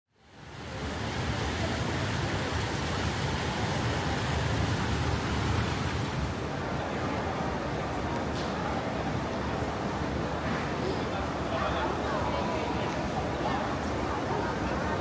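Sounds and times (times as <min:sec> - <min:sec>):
murmur of a large crowd: 0:00.4 - 0:15.0.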